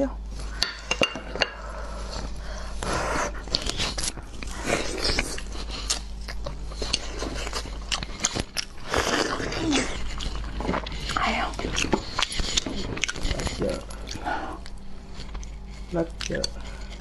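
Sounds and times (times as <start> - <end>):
chewing mouth noises: 3.4 - 17.0.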